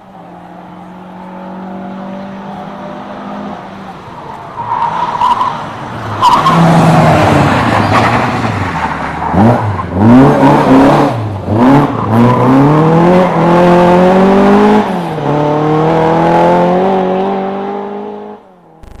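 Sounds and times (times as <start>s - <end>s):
rally car engine revving: 0.2s - 18.8s.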